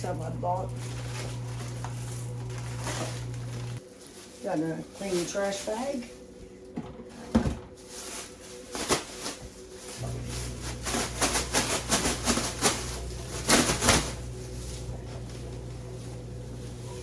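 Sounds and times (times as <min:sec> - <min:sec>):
low steady hum: 0:00.0 - 0:07.7, 0:09.8 - 0:17.0
plastic bag rustling: 0:00.0 - 0:17.0.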